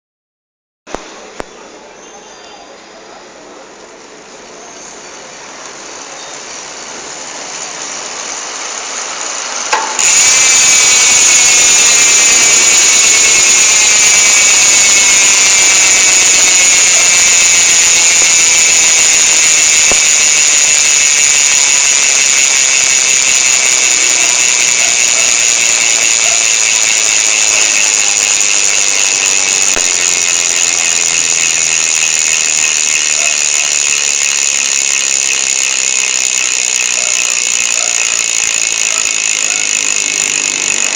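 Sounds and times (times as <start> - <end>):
bike hub freewheel buzzing: 3.4 - 40.9.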